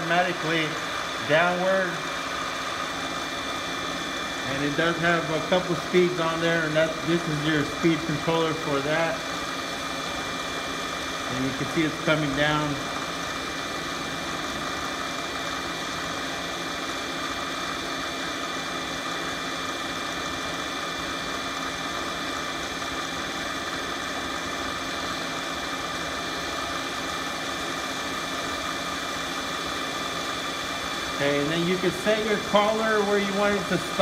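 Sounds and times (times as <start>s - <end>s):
milling machine motor humming: 0.0s - 34.0s.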